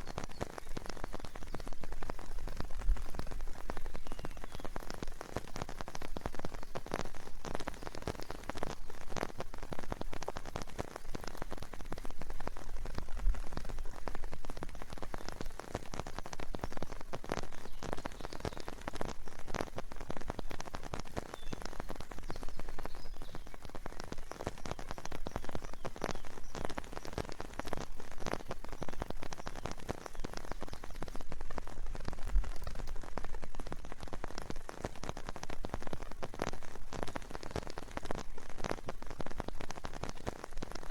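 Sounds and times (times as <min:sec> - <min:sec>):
rain drops striking a surface: 0:00.0 - 0:40.9.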